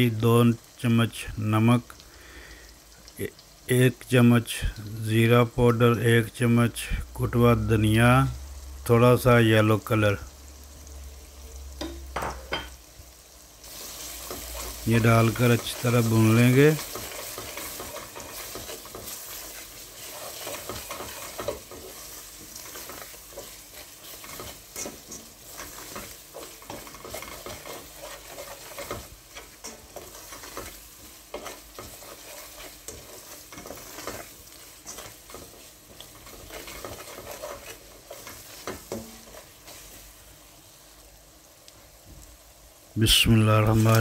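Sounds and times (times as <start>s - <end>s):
onion sizzling in oil: 0.0s - 44.0s.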